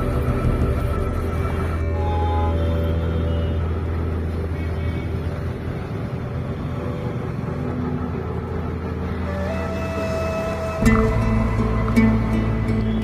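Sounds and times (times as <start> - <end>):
auto-rickshaw engine drone: 0.0 - 13.0
surrounding traffic: 0.0 - 13.0.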